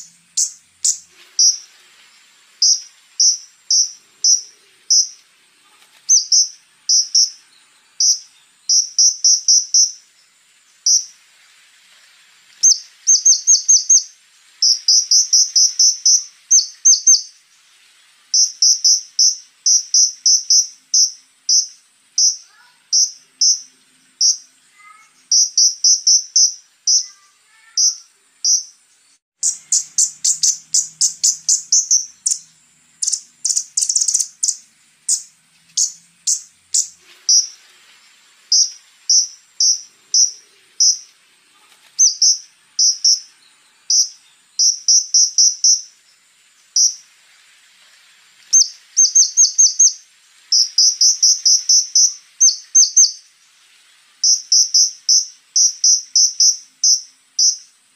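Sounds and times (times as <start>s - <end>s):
sunbird singing: 0.0s - 47.1s, 48.4s - 53.5s, 54.1s - 57.9s
thin high insect-like buzz: 0.0s - 57.9s.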